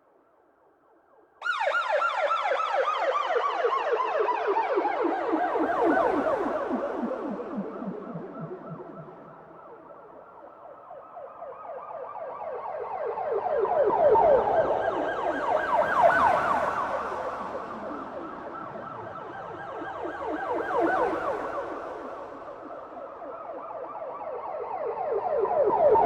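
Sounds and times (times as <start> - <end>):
police siren yelping: 1.4 - 26.0.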